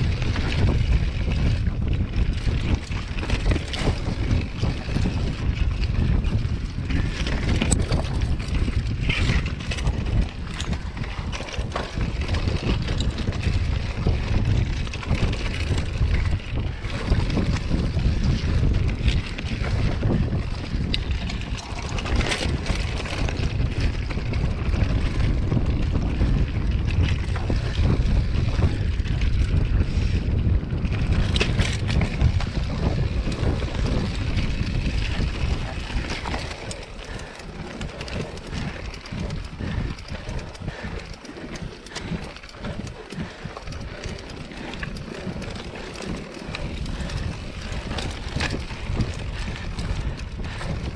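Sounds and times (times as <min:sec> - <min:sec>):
bike rattling over stones: 0:00.0 - 0:50.9
wind rumbling on microphone: 0:00.0 - 0:50.9.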